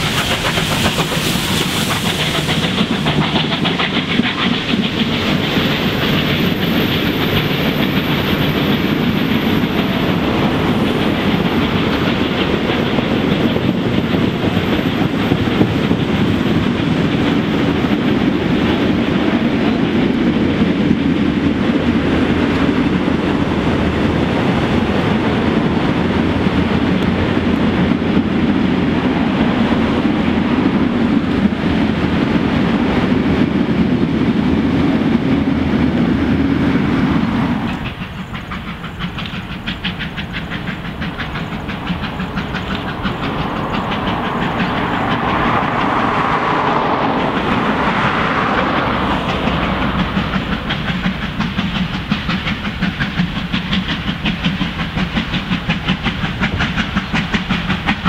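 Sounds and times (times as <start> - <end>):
train carriages rumbling and clattering: 0.0 - 58.0.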